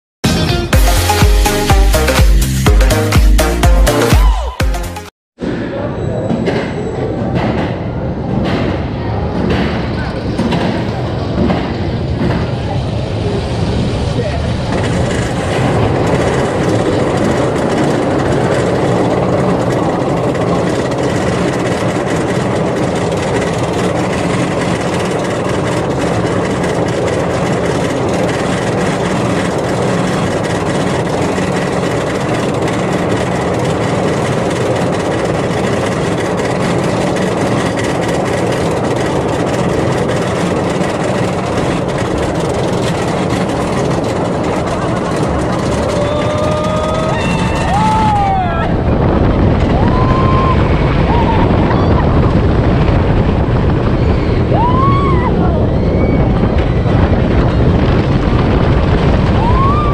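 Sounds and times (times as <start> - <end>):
roller coaster chain lift rattling: 5.8 - 59.9.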